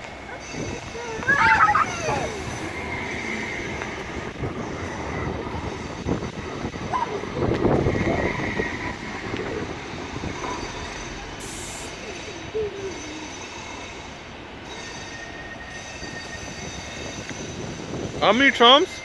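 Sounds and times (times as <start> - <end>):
street noise: 0.0 - 19.0
tram running past: 0.0 - 19.0.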